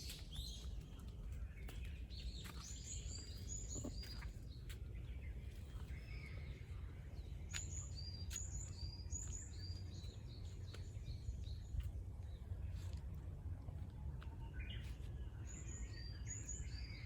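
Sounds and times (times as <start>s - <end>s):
steady low rumble: 0.7s - 17.0s.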